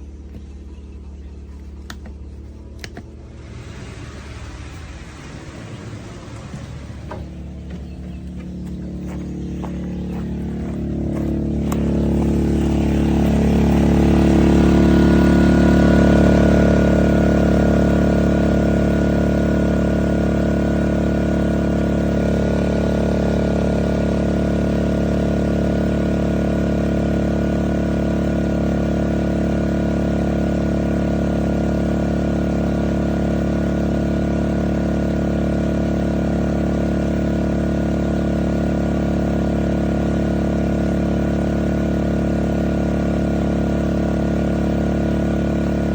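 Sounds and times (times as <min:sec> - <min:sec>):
portable generator engine running: 0:00.0 - 0:45.9.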